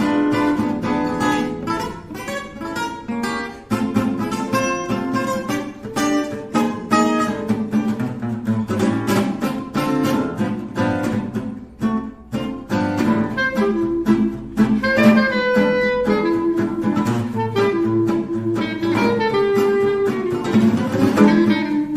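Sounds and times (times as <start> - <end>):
plucked guitar: 0.0 - 21.9.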